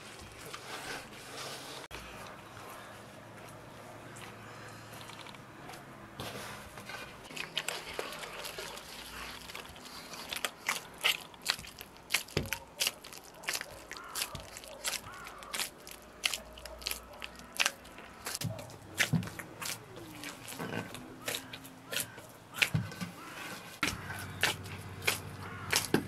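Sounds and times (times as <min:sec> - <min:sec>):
hands kneading wet dough: 0:00.0 - 0:26.0.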